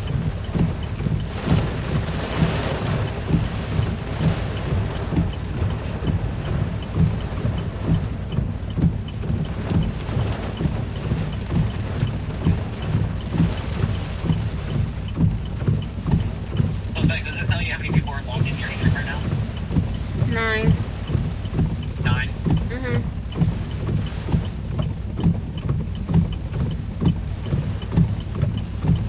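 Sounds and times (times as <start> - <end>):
heavy rain on a car: 0.0 - 29.0.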